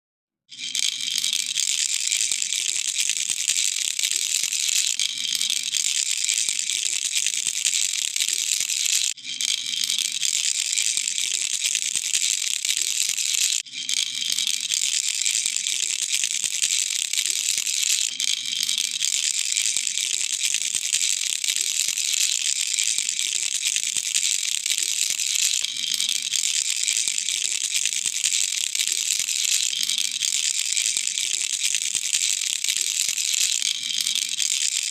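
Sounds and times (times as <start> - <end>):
baby rattle shaking: 0.5 - 34.9.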